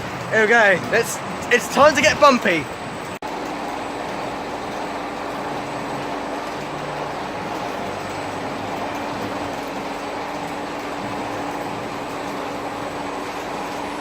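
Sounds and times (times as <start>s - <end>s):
ride vehicle rumbling: 0.0s - 14.0s.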